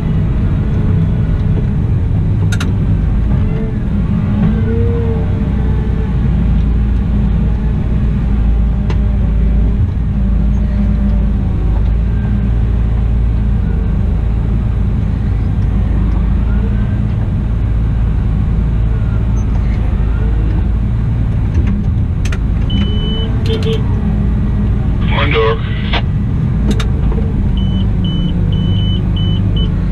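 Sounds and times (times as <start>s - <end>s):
wheel loader diesel engine: 0.0s - 29.9s.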